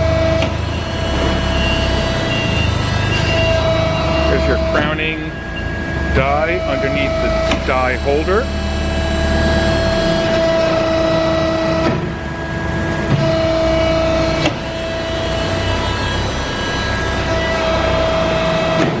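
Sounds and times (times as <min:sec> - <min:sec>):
machine hum: 0:00.0 - 0:19.0
machine whine: 0:00.0 - 0:19.0.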